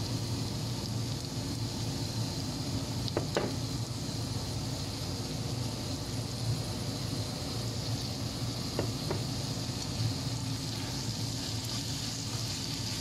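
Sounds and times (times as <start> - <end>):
vegetables sizzling in a frying pan: 0.0 - 13.0
sauce pouring: 0.2 - 13.0.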